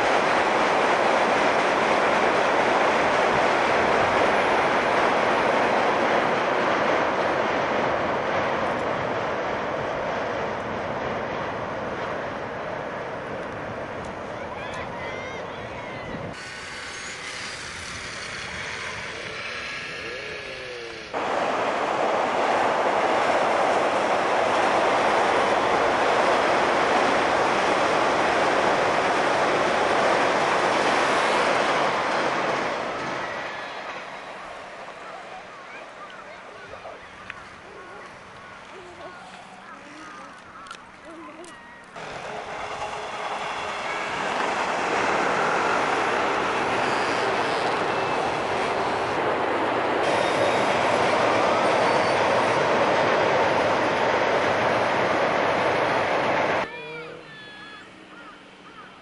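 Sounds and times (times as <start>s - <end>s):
train crossing a steel bridge: 0.0s - 59.0s.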